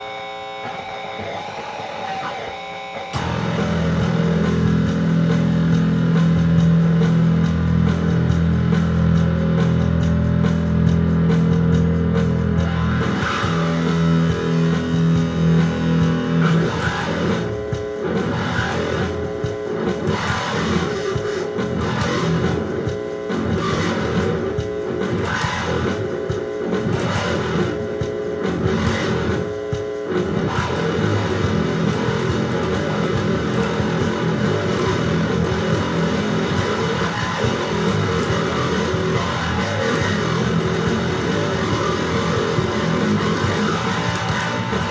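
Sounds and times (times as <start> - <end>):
rock music with guitar and bass: 0.0 - 44.9
steady drum beat: 3.2 - 44.9.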